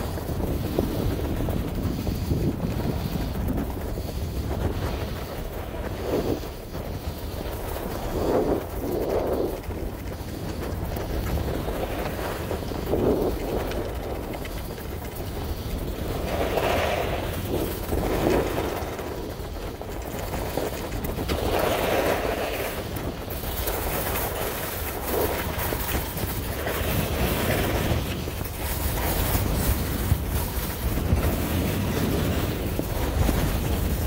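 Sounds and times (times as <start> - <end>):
skis scraping on packed snow: 0.0 - 34.0
wind rumble on microphone: 0.0 - 34.0.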